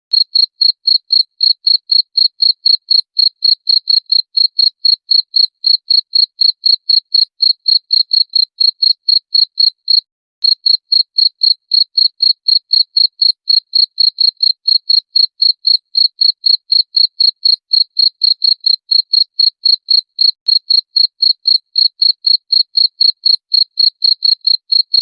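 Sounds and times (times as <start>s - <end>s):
cricket chirping: 0.1s - 23.6s.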